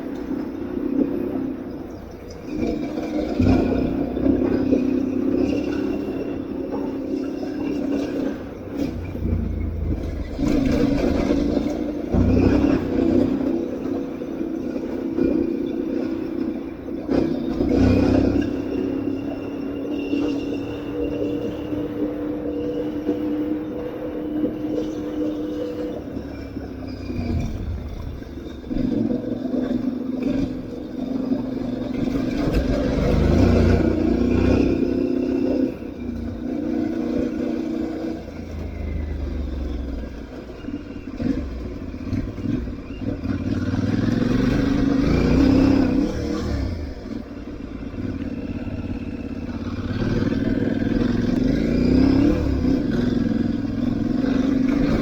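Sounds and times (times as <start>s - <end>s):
motorcycle engine revving: 1.2s - 55.0s.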